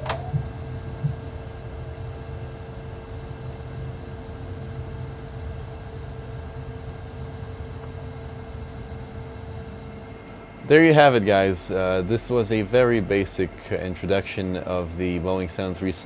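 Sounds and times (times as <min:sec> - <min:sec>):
low rumble with constant hum: 0:00.0 - 0:16.0.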